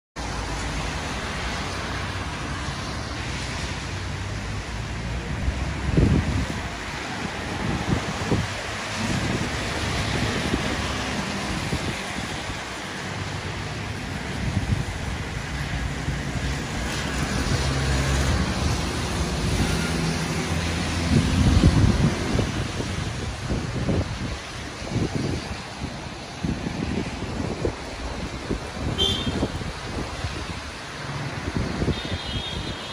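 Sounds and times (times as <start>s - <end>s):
tyres hissing on wet road: 0.2s - 32.9s
wind gusts buffeting microphone: 0.2s - 32.9s
wind noise: 0.2s - 32.9s.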